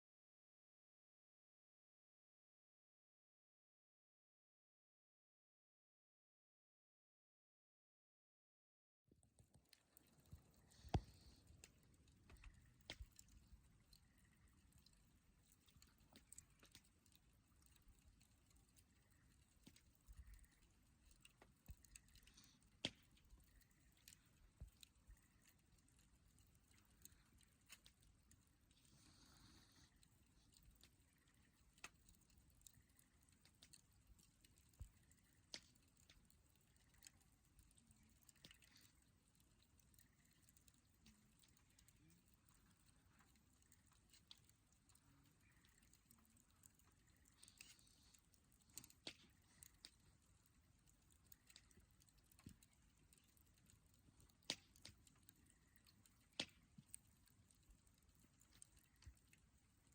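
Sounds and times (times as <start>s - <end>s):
fire pops: 9.4s - 59.5s
campfire crackling: 9.4s - 59.9s.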